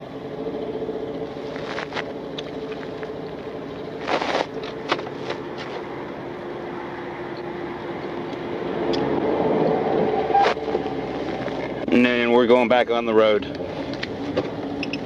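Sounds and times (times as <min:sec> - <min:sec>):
car engine at speed: 0:00.0 - 0:12.2, 0:13.4 - 0:15.0
road noise: 0:00.0 - 0:15.0.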